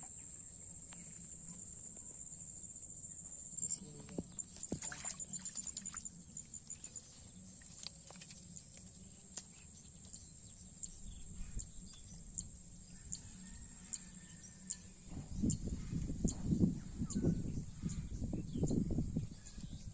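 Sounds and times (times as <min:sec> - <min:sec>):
high-pitched insect trill: 0:00.0 - 0:19.9
low background hum: 0:00.0 - 0:19.9.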